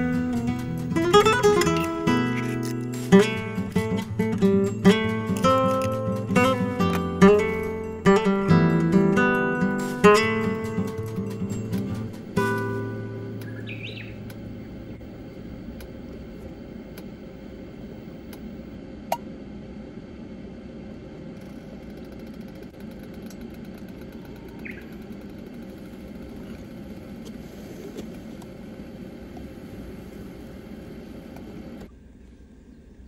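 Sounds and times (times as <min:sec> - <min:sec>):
car engine rumble inside cabin: 0:02.4 - 0:31.9.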